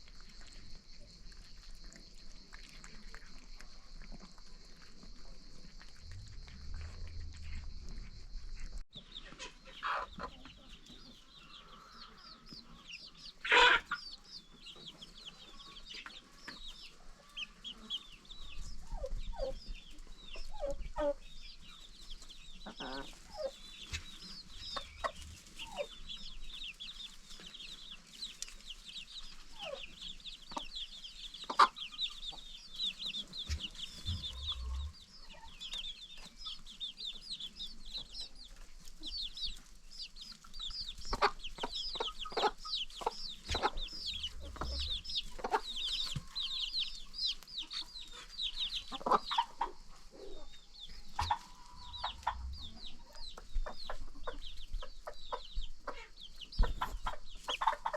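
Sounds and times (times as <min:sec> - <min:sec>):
chickens clucking: 0:00.0 - 0:57.9.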